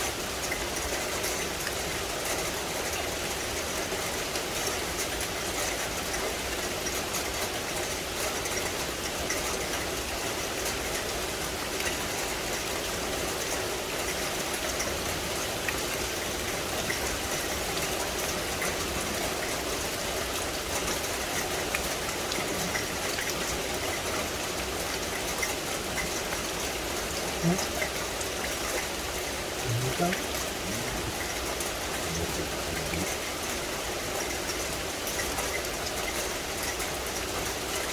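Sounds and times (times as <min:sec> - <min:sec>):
steady rain hiss: 0:00.0 - 0:37.9
water drips: 0:00.0 - 0:37.9.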